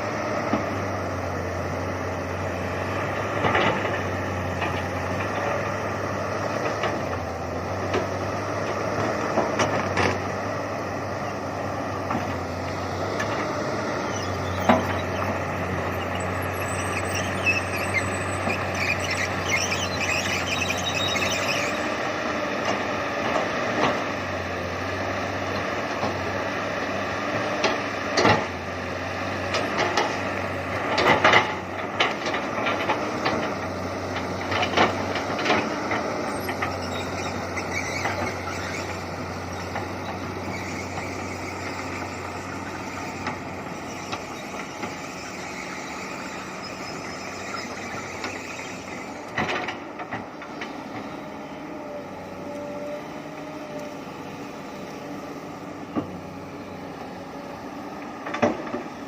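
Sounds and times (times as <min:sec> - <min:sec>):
excavator diesel engine: 0:00.0 - 0:59.0
hydraulic whine wavering: 0:01.2 - 0:23.0, 0:32.1 - 0:59.0.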